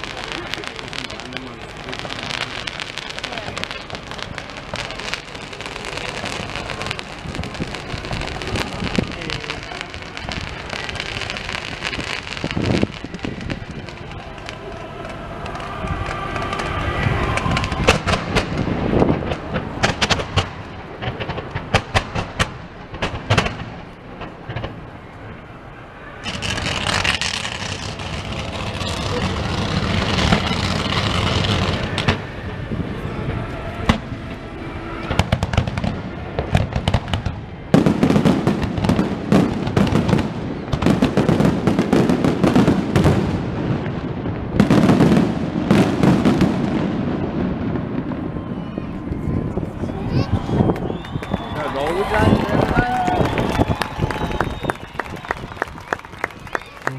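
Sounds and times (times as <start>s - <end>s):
low firework bangs: 0.0s - 25.2s, 26.2s - 56.9s
fireworks crackling and popping: 0.0s - 56.9s.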